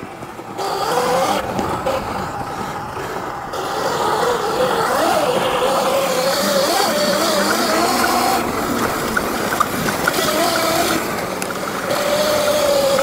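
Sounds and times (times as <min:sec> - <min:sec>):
dirt bike motor: 0:00.0 - 0:13.0
wind: 0:00.0 - 0:13.0.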